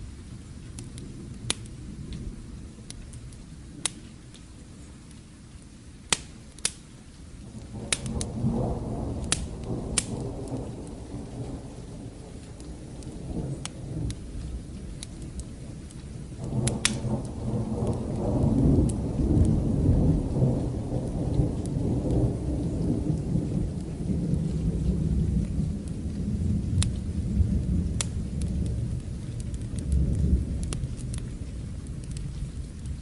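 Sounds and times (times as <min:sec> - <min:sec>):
rolling thunder rumble: 0:00.0 - 0:04.0, 0:07.4 - 0:33.0
steady rain: 0:00.0 - 0:33.0
wood fire crackling: 0:00.0 - 0:33.0.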